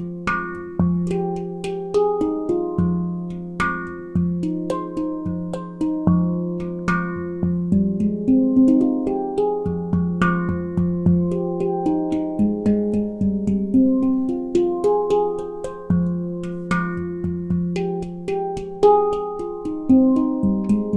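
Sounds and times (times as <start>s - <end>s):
handpan notes: 0.0s - 20.9s.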